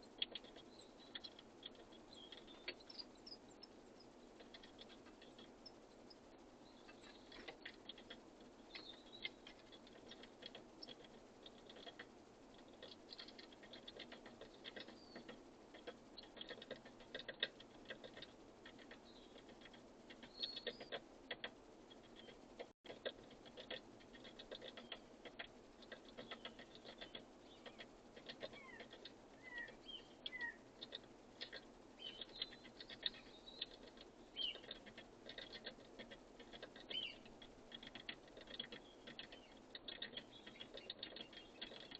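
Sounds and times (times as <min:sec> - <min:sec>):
faint bird chirps: 0:00.0 - 0:21.0, 0:21.9 - 0:22.5, 0:23.5 - 0:41.9
birds pecking at feeder: 0:00.0 - 0:41.9.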